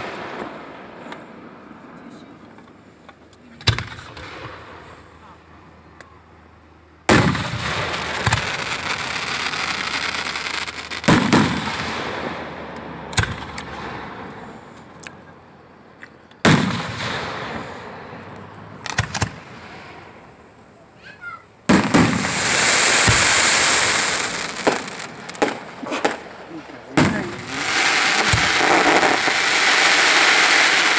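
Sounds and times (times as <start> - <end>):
fireworks bangs: 0.0 - 2.8, 3.5 - 5.2, 7.0 - 14.7, 16.4 - 30.9
fireworks crackle: 0.0 - 5.2, 7.1 - 15.0, 16.4 - 30.9.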